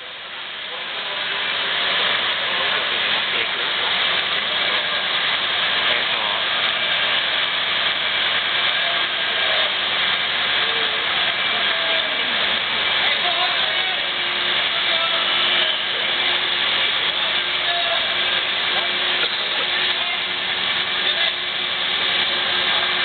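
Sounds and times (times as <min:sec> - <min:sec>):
loud street noise: 0:00.0 - 0:23.0
indistinct voices: 0:00.6 - 0:23.0.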